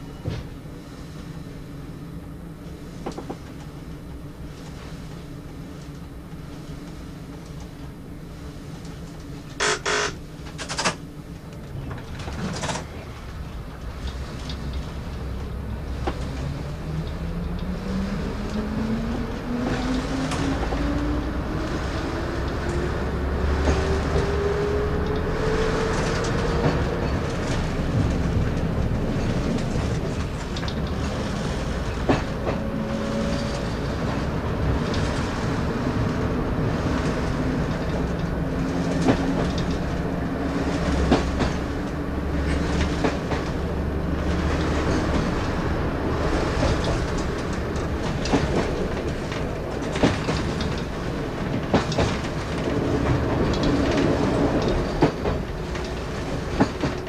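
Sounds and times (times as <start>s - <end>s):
diesel train engine: 0.0s - 57.0s
wheels clicking over rail joints: 9.1s - 57.0s.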